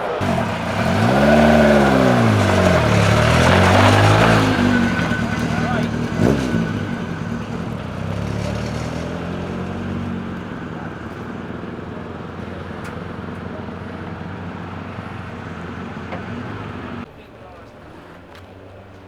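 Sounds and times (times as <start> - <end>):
rally car engine running hard: 0.0 - 17.0.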